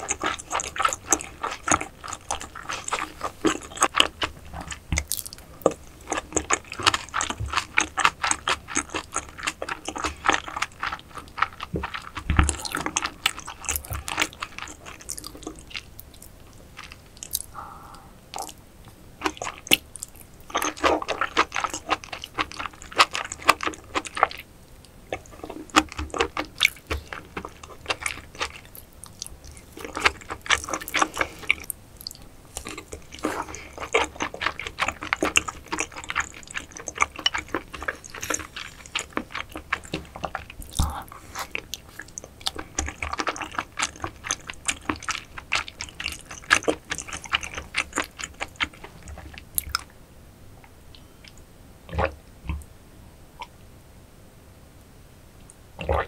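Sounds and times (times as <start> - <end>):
wet chewing and biting: 0.0 - 49.9.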